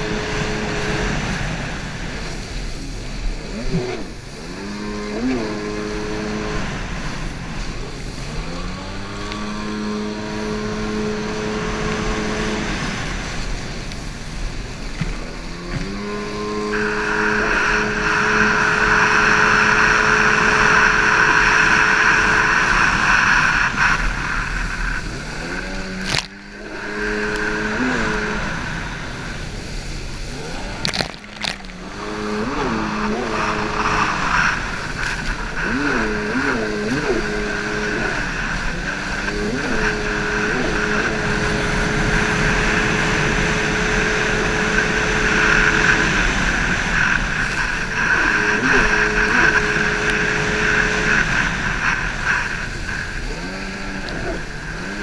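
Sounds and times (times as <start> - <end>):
jet ski engine revving: 0.0 - 55.0
rushing water spray and wind: 0.0 - 55.0.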